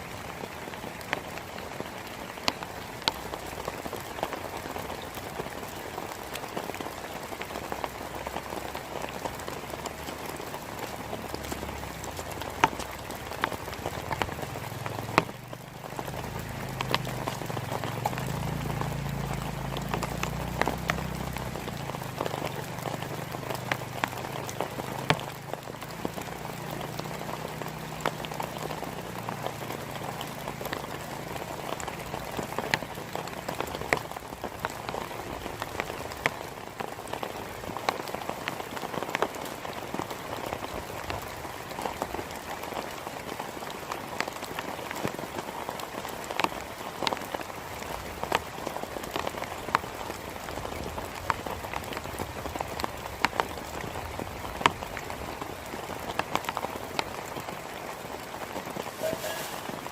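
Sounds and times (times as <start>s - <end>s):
heavy rain: 0.0s - 59.9s
raindrops ticking close by: 0.0s - 59.9s.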